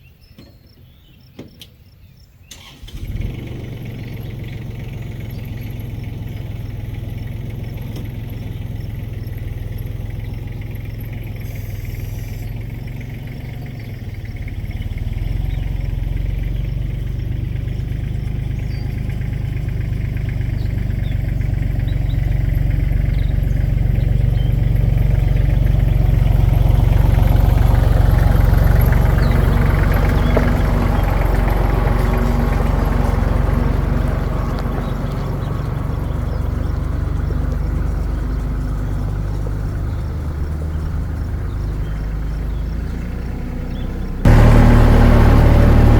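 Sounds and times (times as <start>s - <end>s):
machine engine droning: 2.7s - 45.9s.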